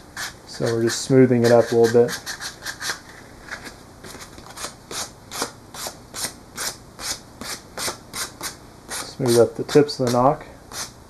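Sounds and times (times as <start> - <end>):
sandpaper rubbing on wood: 0.0 - 3.0, 4.9 - 11.0.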